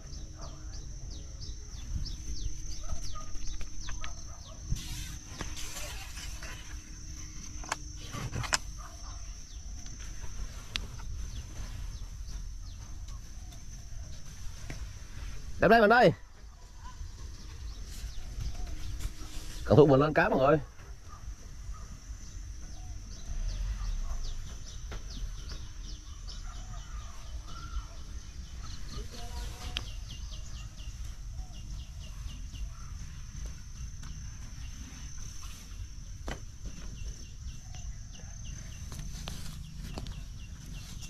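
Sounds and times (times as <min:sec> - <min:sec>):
steady high-pitched whine: 0:00.0 - 0:41.0.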